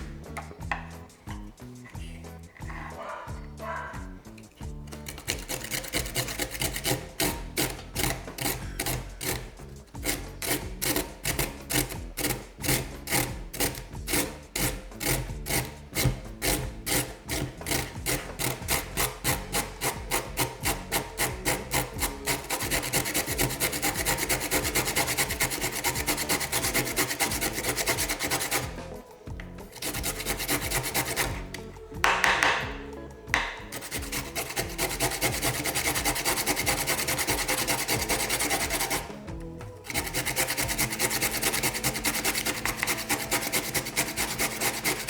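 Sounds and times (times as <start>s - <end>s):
carrot rasping on metal grater: 3.6s - 32.7s, 33.4s - 45.0s.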